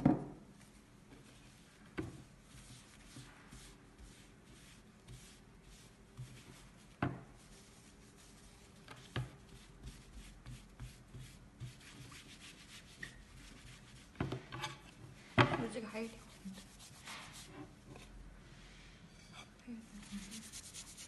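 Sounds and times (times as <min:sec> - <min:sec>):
tissue wiping painted panel: 0:00.5 - 0:18.8, 0:19.8 - 0:21.0.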